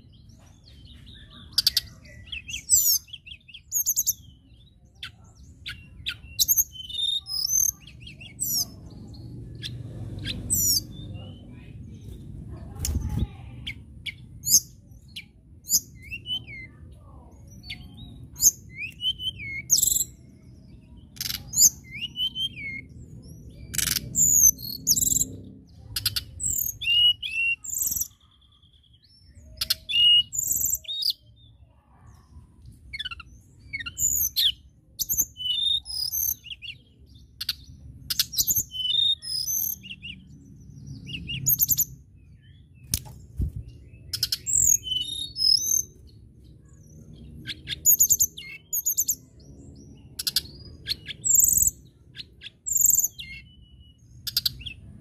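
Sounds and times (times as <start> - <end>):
bird singing whistled notes and trills: 0.0 - 55.0.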